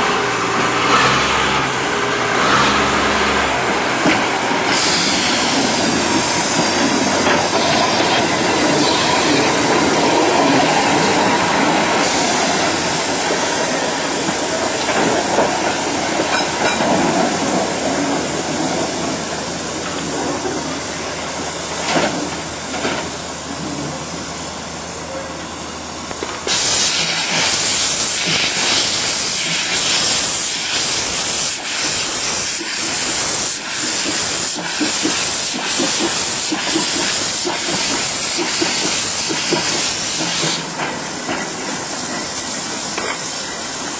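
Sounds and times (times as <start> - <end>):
steam locomotive exhaust chuffs: 0.0 - 24.1, 26.1 - 43.9
steam locomotive rumble: 0.0 - 43.9.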